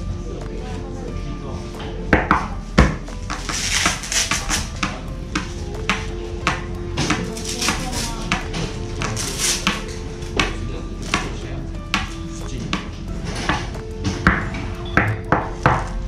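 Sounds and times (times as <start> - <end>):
held musical notes: 0.0 - 16.0
sharp knocks and taps: 2.1 - 16.0.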